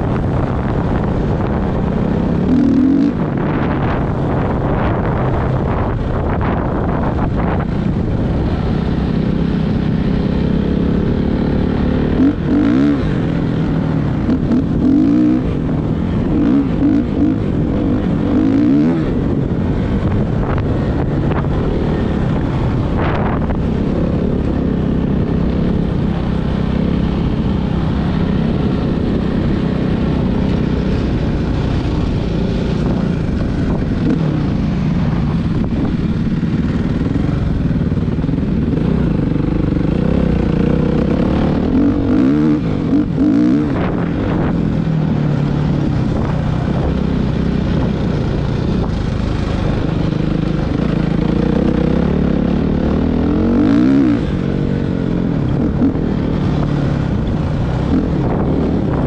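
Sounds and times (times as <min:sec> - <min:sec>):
motocross bike engine revving: 0:00.0 - 0:06.8, 0:08.6 - 0:59.0.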